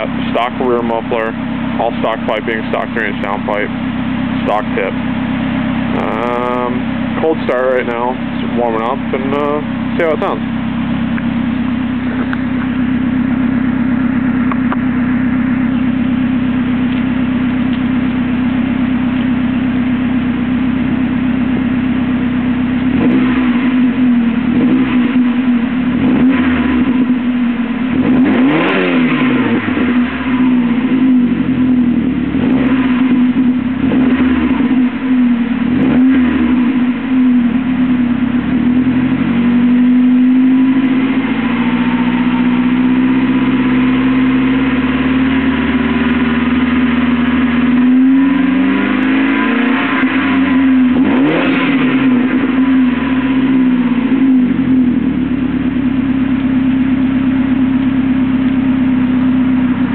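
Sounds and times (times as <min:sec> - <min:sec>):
car engine revving and idling: 0:00.0 - 0:59.9.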